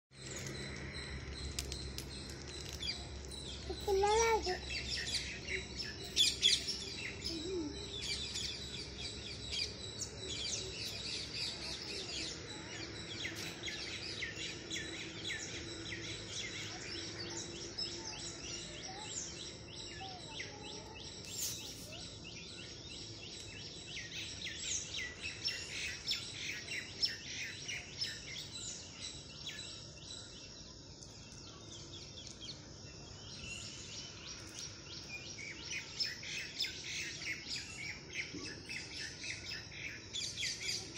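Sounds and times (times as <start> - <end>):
chorus of birds chirping: 0.1 - 40.9.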